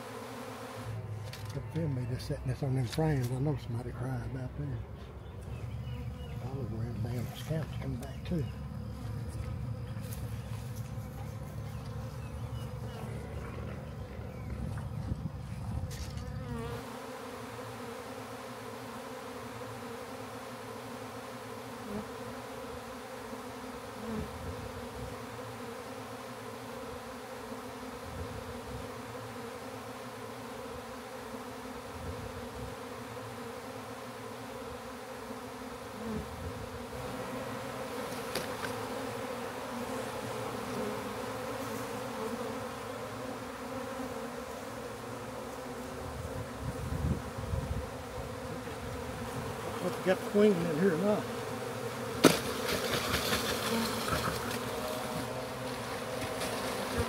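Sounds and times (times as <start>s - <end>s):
bee swarm buzzing: 0.0s - 57.0s.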